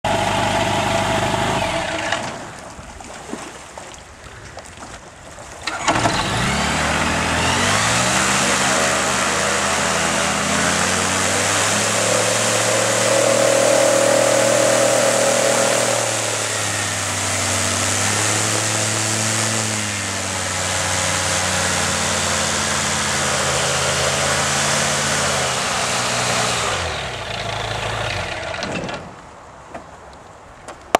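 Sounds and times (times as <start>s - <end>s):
light aircraft engine and propeller: 0.1s - 2.7s, 5.6s - 29.0s.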